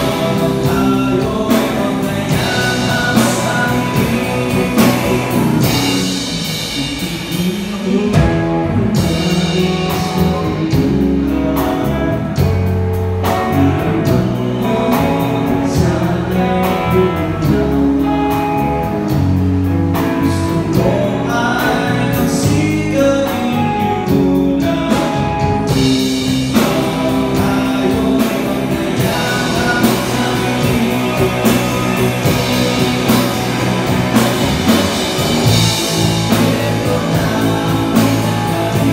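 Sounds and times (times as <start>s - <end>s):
bass guitar: 0.0s - 38.9s
drum kit: 0.0s - 38.9s
electric guitar: 0.0s - 38.9s
man singing: 0.0s - 38.9s.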